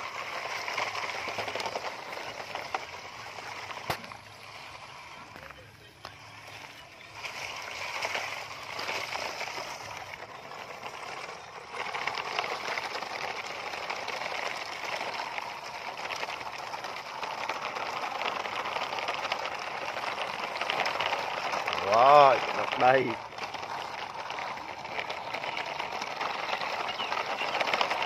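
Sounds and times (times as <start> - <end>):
toy trucks splashing through puddle: 0.0 - 28.0.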